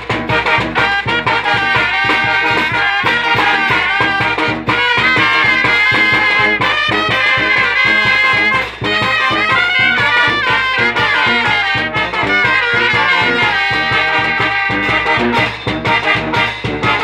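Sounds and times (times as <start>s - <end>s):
brass band playing: 0.0s - 17.0s
steady drum beat: 0.0s - 17.0s.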